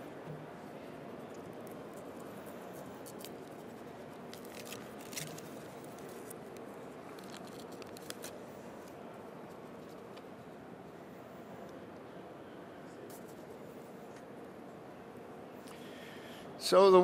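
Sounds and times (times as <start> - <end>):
hum of a large hall: 0.0 - 17.0.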